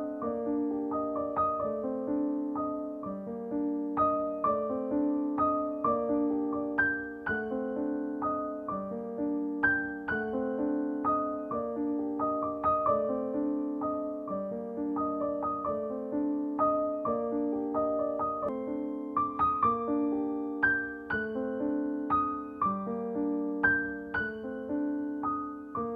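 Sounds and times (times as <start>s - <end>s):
gentle piano melody: 0.0s - 25.9s.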